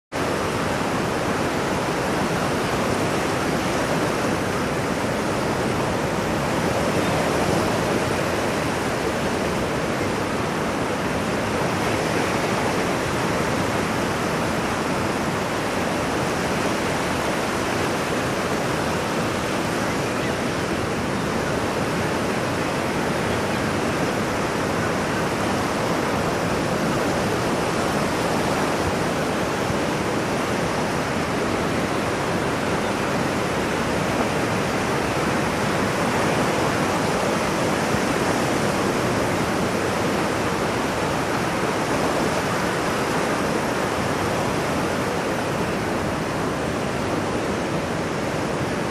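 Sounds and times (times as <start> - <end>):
ocean surf rushing: 0.1 - 48.9.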